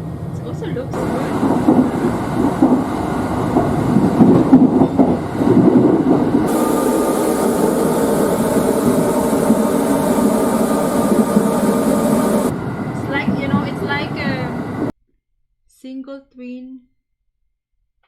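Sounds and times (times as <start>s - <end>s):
train running noise: 0.0s - 14.9s.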